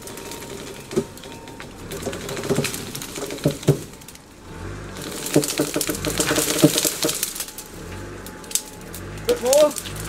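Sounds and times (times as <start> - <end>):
branches cracking and snapping: 0.0 - 10.0.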